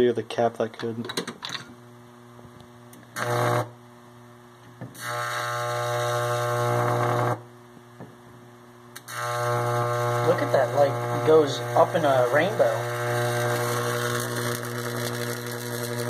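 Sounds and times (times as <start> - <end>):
transformer buzzing hum: 1.7 - 16.0.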